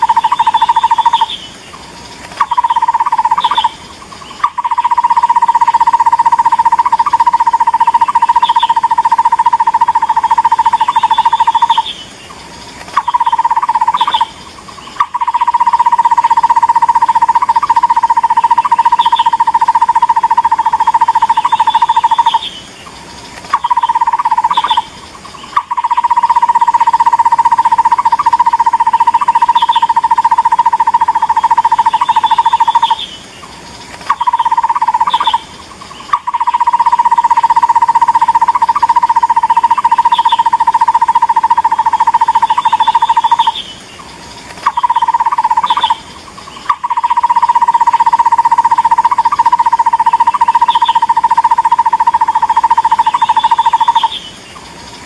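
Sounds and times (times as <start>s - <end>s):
bird call recording: 0.0s - 55.0s.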